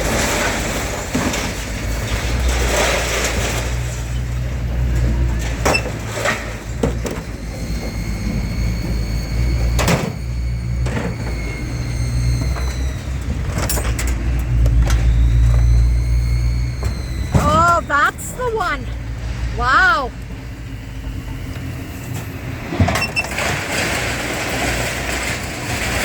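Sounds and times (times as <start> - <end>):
engine and road rumble: 0.0 - 26.0.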